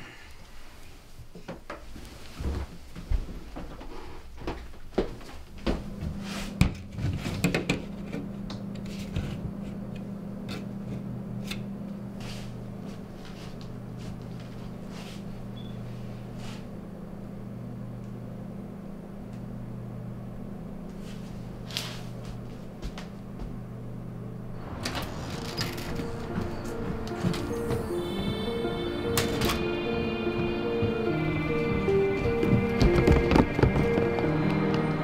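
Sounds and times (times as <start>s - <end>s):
steady low hum: 4.3s - 35.0s.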